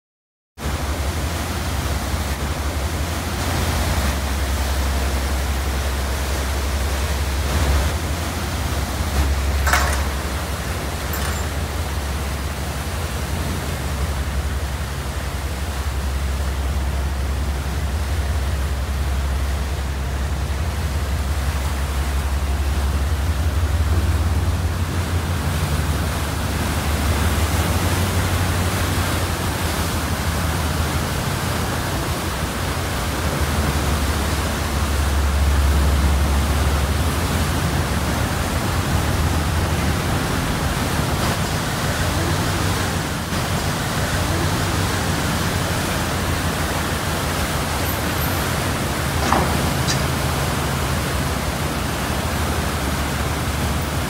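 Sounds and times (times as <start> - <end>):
constant low engine rumble: 0.6 - 54.0
propeller wash churning water: 0.6 - 54.0.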